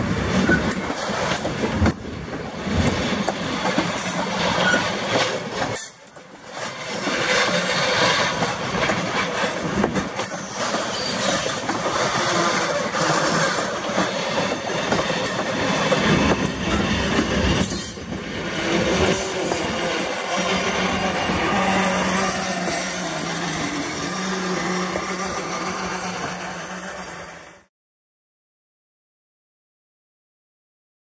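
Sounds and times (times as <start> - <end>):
freight train wheels clacking: 0.0 - 27.4.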